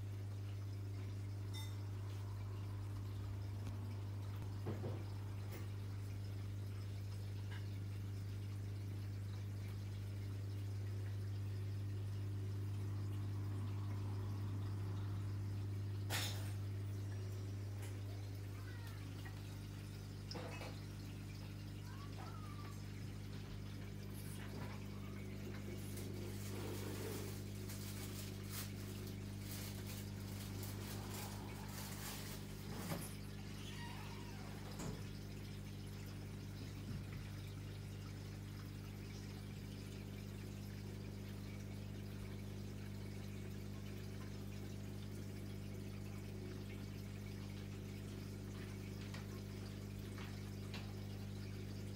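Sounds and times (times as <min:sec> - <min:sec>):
aquarium pump hum: 0:00.0 - 0:51.9
water trickling and splashing: 0:00.0 - 0:51.9.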